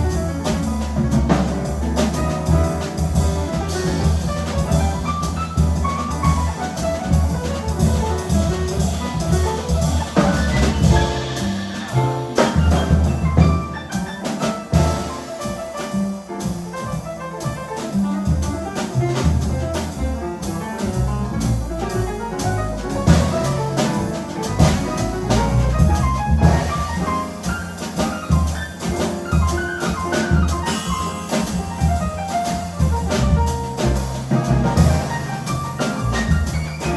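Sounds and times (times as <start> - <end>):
drum and cymbal strikes: 0.0 - 36.9
held double-bass notes: 0.0 - 36.9
jazz quartet playing: 0.0 - 36.9.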